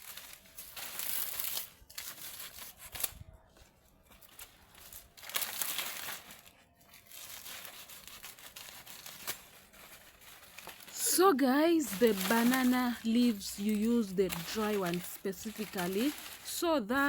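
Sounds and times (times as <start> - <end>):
dry leaves crinkling and rustling: 0.0 - 17.0.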